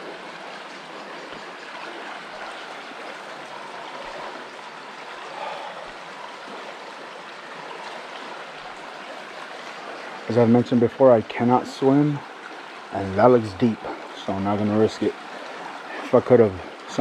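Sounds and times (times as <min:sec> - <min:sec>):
river water flowing over rocks: 0:00.0 - 0:17.0.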